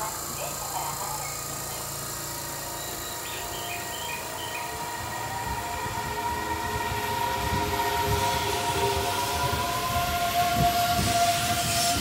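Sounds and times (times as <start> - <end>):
train inverter whine: 0.0 - 12.0.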